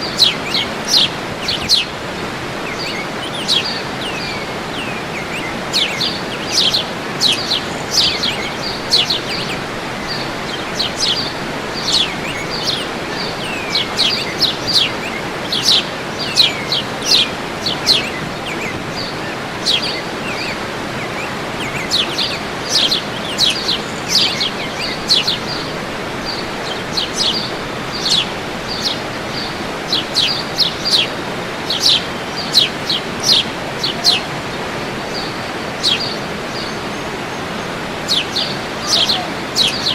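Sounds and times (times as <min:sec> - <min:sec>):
falling water rushing: 0:00.0 - 0:39.9
songbirds chirping: 0:00.0 - 0:39.9.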